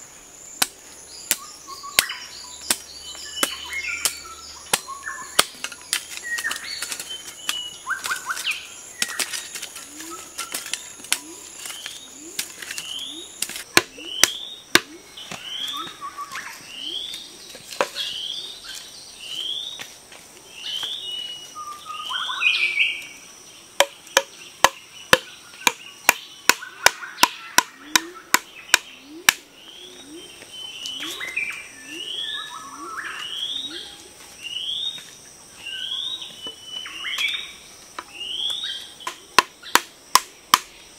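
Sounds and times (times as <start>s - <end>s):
insect buzz: 0.0s - 40.9s
bird chirping: 0.4s - 19.8s, 20.5s - 39.8s.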